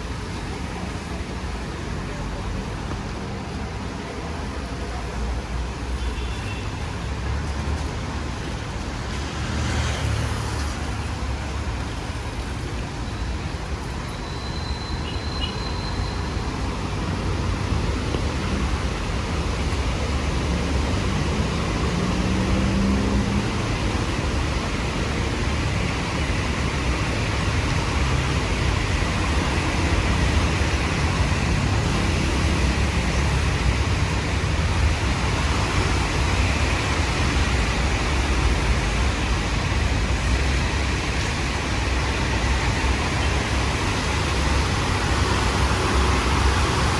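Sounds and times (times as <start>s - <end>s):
traffic rumble on wet road: 0.0s - 46.9s.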